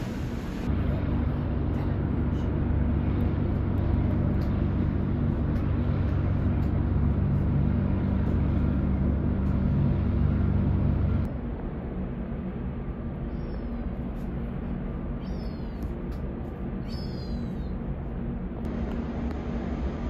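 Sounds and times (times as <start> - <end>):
ship engine rumble: 0.0 - 20.0
wind: 0.0 - 20.0.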